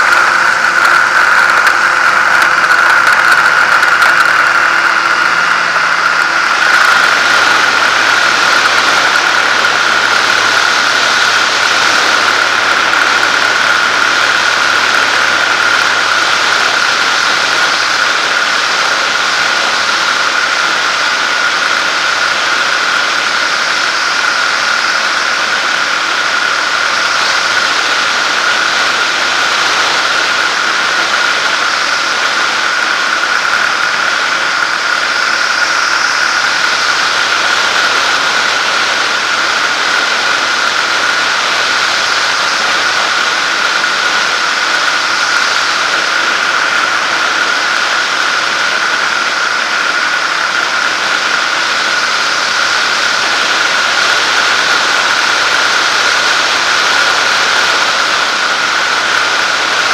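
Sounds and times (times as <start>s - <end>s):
aircraft engine and propeller: 0.0s - 59.9s
wind rush: 0.0s - 59.9s.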